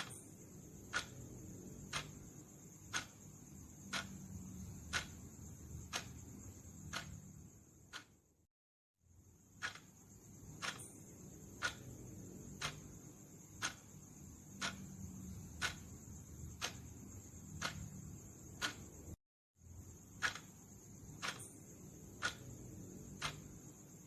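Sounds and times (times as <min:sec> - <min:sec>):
faint hiss and low rumble: 0:00.0 - 0:08.0, 0:09.1 - 0:24.0
clock-style ticking: 0:00.0 - 0:08.2, 0:09.6 - 0:19.2, 0:20.0 - 0:24.0.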